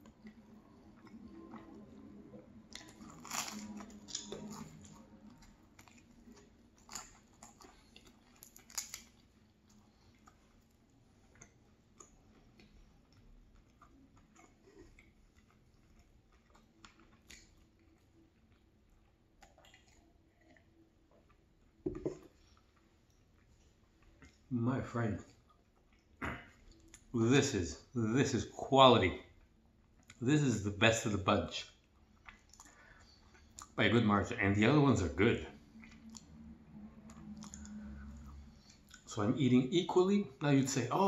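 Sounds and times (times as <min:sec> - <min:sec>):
chewing crisp pastry: 0:00.0 - 0:27.2, 0:29.1 - 0:30.2, 0:31.6 - 0:33.9, 0:35.1 - 0:39.2.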